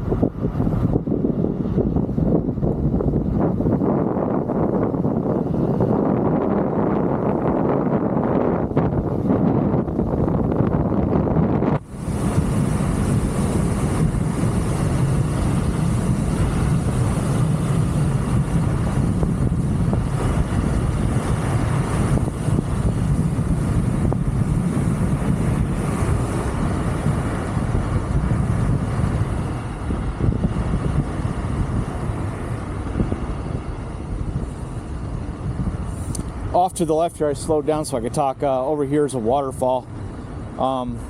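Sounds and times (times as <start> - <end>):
electric scooter high whine: 0.0 - 36.6
scooter tyre noise: 0.0 - 36.7
wind rushing over microphone: 0.0 - 41.0.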